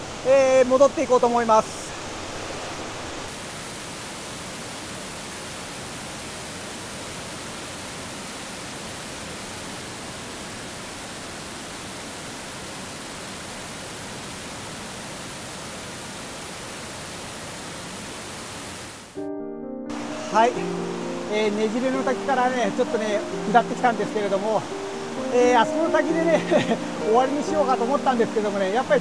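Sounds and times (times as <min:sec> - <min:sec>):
waterfall rushing: 0:00.0 - 0:19.2, 0:19.9 - 0:29.0.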